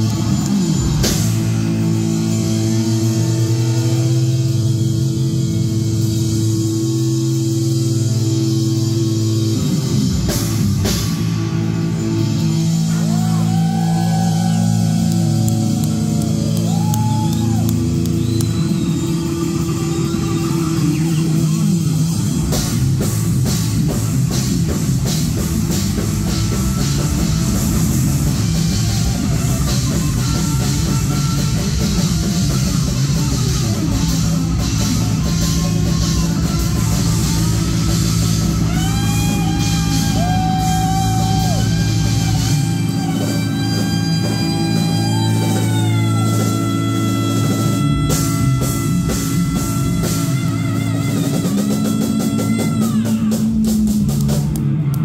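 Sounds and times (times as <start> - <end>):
bass guitar low notes: 0.0 - 55.0
distorted electric guitar: 0.0 - 55.0
drum kit: 0.0 - 55.0.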